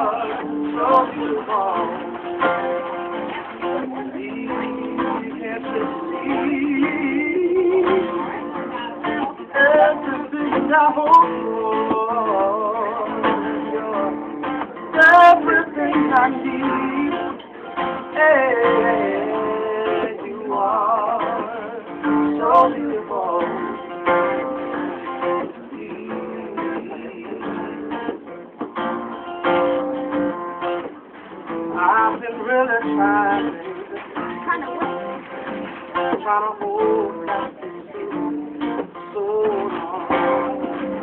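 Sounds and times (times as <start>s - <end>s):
person singing with vibrato: 0.0s - 28.2s, 31.6s - 41.0s
acoustic guitar strumming: 0.0s - 41.0s.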